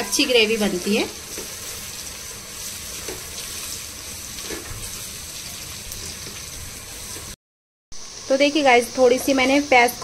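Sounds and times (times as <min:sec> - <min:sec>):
onions sizzling in oil: 0:00.0 - 0:07.4, 0:08.0 - 0:10.0.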